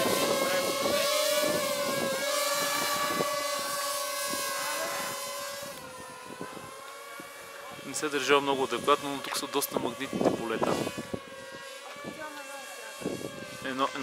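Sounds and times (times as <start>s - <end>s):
drone propellers whining: 0.0s - 14.0s
wind buffeting microphone: 0.0s - 14.0s.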